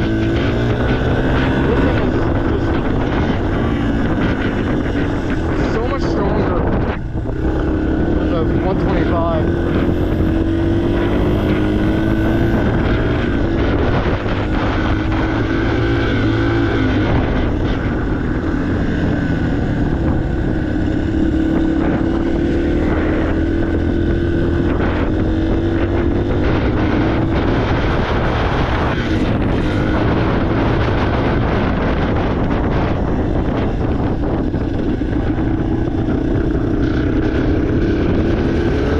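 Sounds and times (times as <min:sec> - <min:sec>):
dirt bike engine running: 0:00.0 - 0:38.9
wind buffeting microphone: 0:00.0 - 0:38.9.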